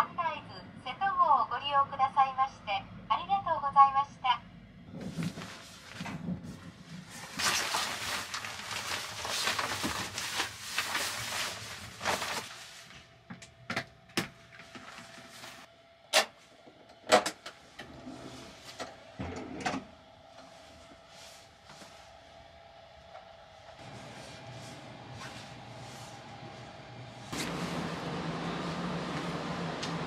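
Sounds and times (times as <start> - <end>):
train steady hum: 0.0 - 30.0.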